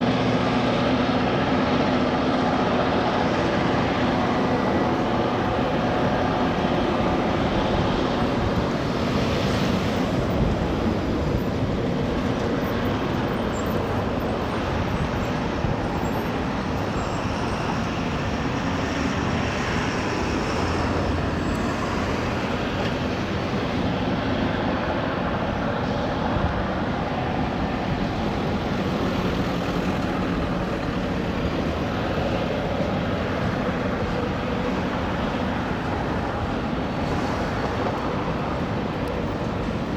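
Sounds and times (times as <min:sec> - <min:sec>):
diesel locomotive engine rumble: 0:00.0 - 0:39.9.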